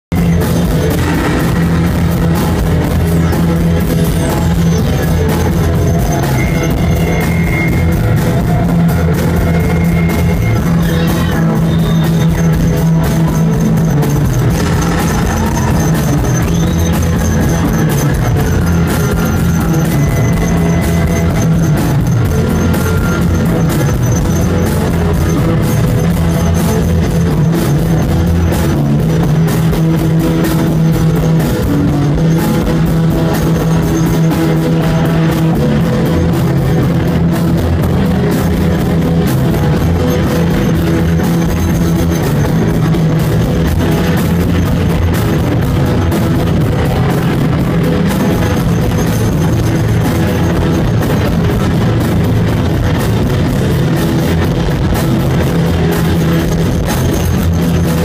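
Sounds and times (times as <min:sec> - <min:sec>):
live rock band playing: 0:00.1 - 0:58.0
sliding high guitar tones: 0:00.1 - 0:58.0.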